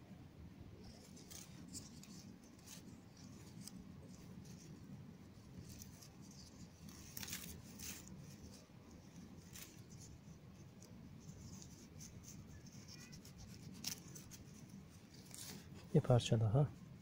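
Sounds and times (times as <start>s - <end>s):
grass rustling: 0.7s - 17.0s.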